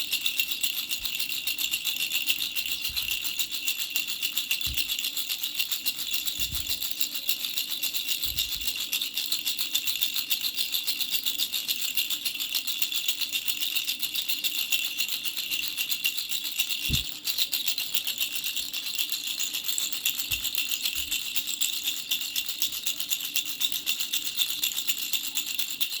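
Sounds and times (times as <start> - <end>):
baby rattle shaking: 0.0 - 26.0.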